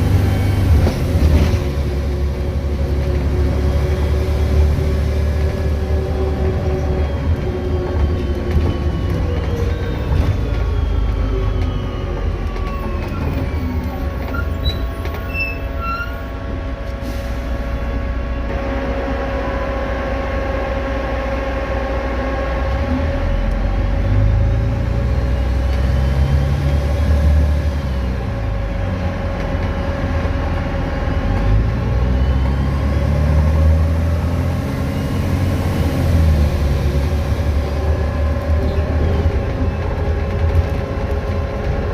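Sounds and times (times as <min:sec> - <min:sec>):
bus diesel engine rumble: 0:00.0 - 0:41.9.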